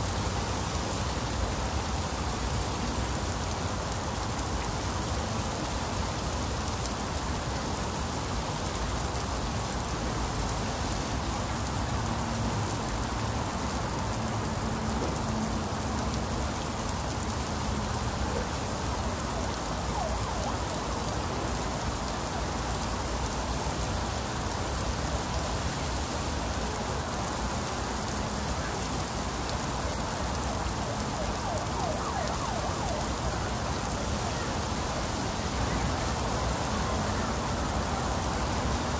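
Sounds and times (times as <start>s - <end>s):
heavy rain on tile roofs: 0.0s - 38.9s.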